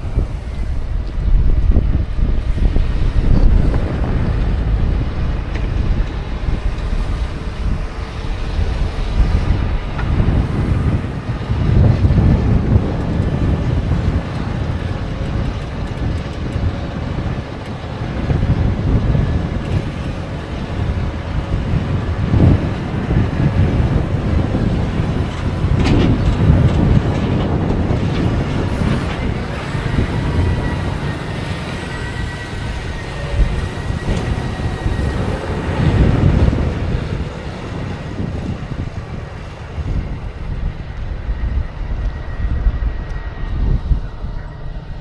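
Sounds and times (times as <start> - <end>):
heavy machinery rumble and clatter: 0.0 - 45.0.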